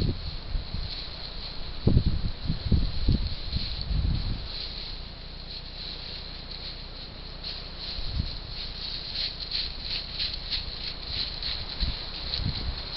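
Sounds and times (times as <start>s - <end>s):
boar moving on forest floor: 0.0s - 12.9s.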